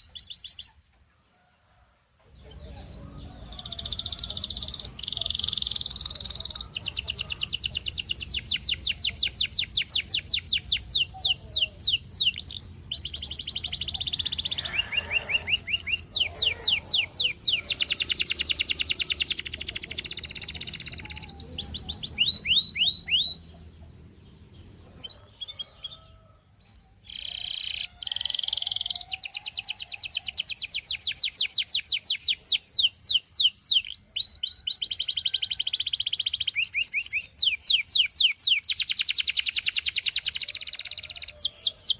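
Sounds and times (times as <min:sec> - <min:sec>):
canary singing trills: 0:00.0 - 0:00.8, 0:02.3 - 0:41.9.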